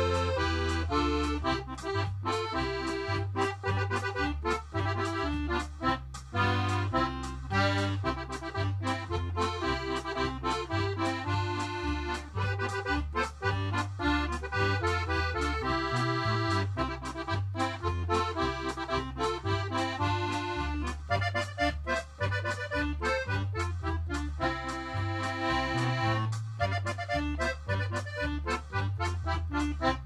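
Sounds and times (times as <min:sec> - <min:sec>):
instrumental background music: 0:00.0 - 0:30.0.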